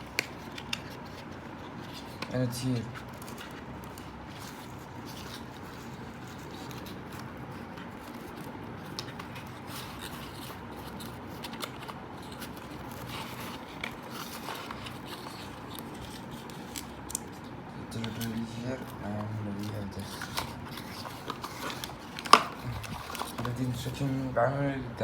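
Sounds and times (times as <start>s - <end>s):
cardboard and paper crackling: 0.0s - 24.8s.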